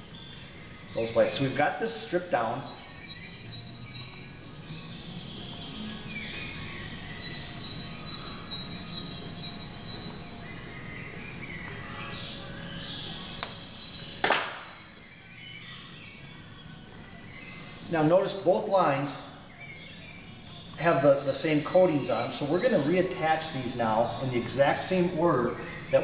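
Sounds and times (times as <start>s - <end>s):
faint background music: 0.0s - 26.0s.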